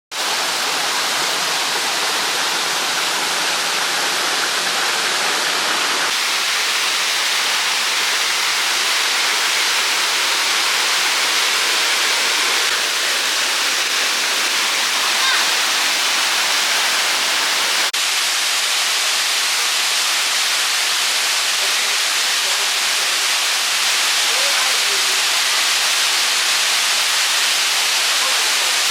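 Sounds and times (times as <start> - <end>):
waterfall rushing and splashing: 0.1 - 28.9.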